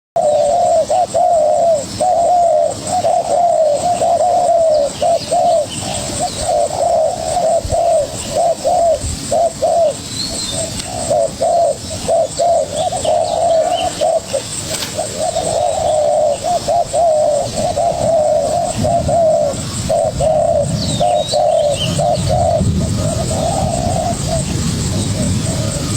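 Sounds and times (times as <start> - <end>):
doves cooing: 0.2 - 25.9
high chirps of small birds: 0.2 - 25.9.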